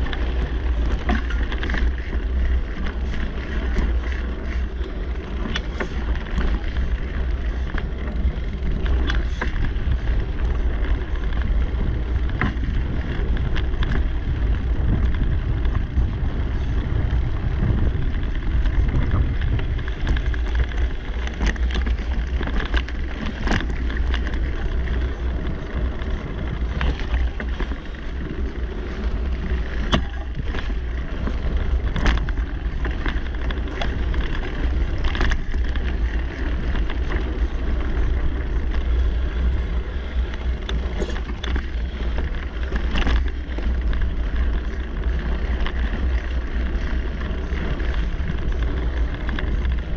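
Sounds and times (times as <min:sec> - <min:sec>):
bike clicks and rattles: 0:00.0 - 0:49.9
bike tyres on dirt: 0:00.0 - 0:49.9
wind rumble on microphone: 0:00.0 - 0:49.9.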